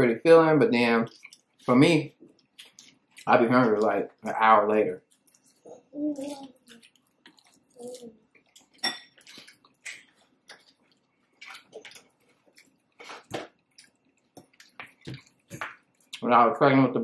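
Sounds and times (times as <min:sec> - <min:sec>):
chewing and mouth clicks: 0:01.0 - 0:04.0, 0:05.0 - 0:16.2.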